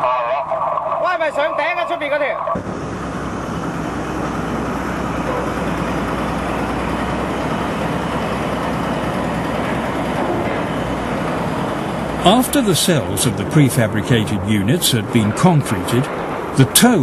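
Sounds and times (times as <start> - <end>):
heavy machinery engines humming: 0.0 - 17.0.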